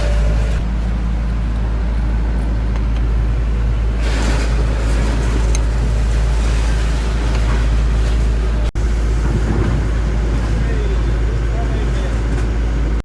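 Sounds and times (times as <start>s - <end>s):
low engine-like rumble: 0.0s - 13.0s.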